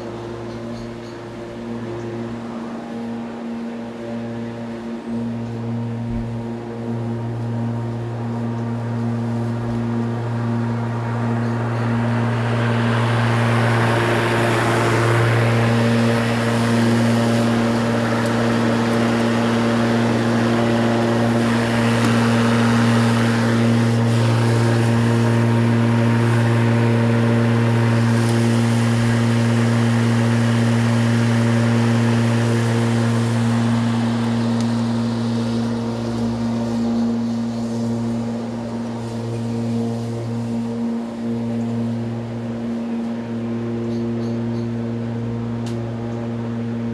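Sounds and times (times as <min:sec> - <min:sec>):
electric lawnmower running: 0:00.0 - 0:46.9.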